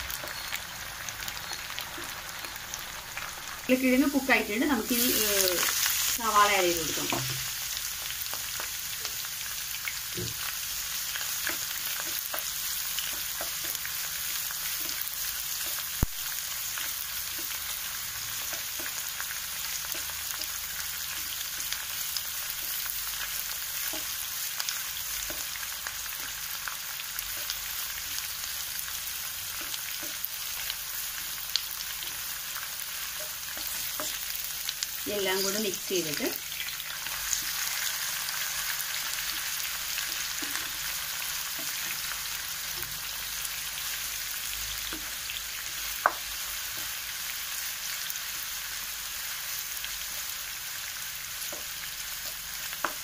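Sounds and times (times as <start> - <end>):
potatoes and onions sizzling in oil: 0.0 - 53.0.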